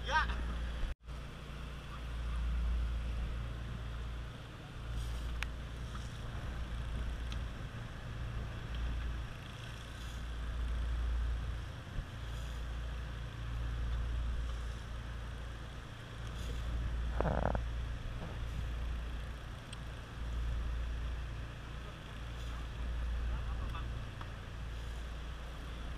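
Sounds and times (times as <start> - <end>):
boat engine running: 0.4 - 25.9.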